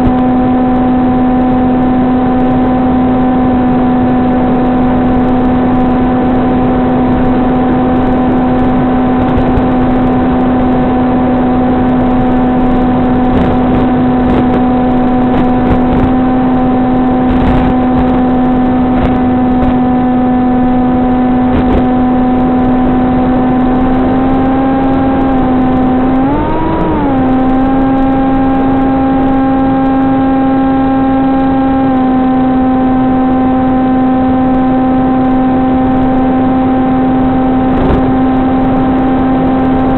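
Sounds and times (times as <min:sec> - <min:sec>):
electric motor propeller hum: 0:00.0 - 0:39.9.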